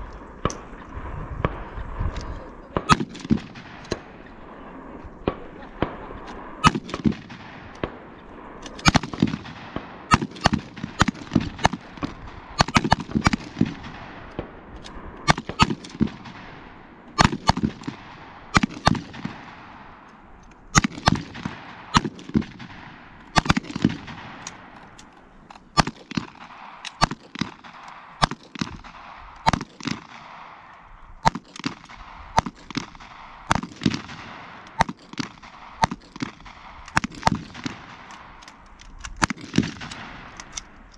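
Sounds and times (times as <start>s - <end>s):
rifle and pistol shots echoing: 0.1s - 2.0s, 2.7s - 40.9s.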